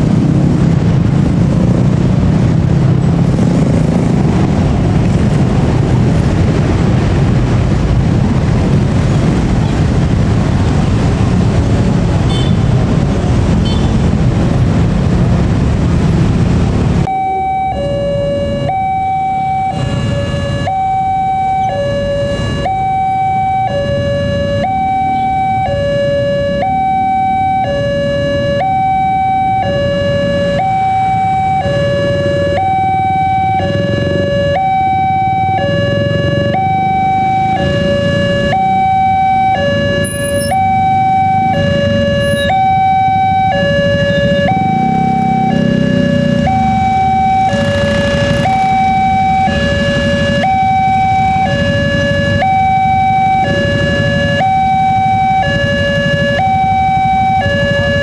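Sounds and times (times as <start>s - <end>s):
idling motorcycles and cars rumble: 0.0s - 58.0s.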